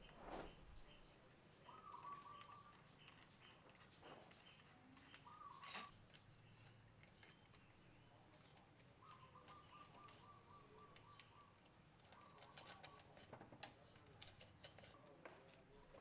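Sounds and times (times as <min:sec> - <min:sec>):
faint bird chirps: 0:00.0 - 0:13.1.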